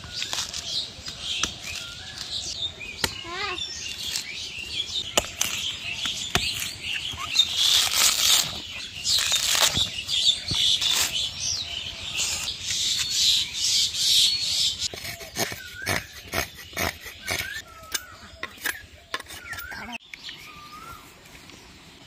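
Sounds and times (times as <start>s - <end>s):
coconut husk ripping and scraping: 0.0s - 13.3s, 14.8s - 21.7s
birds chirping: 0.0s - 22.0s.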